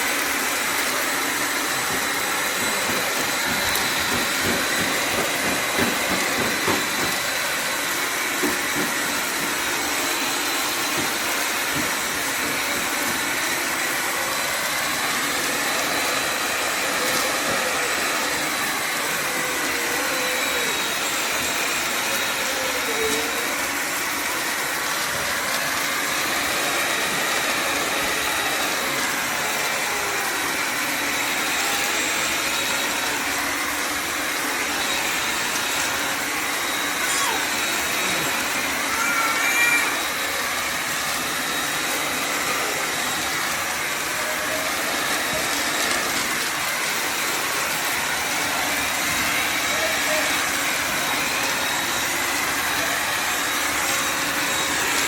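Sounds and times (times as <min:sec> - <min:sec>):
vacuum motor rushing: 0:00.0 - 0:55.0.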